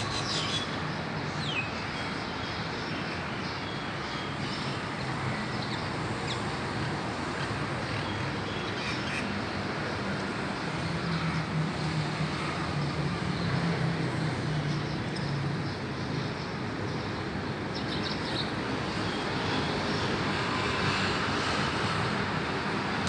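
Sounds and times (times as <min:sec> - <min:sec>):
engine hum over broad rush: 0:00.0 - 0:23.0.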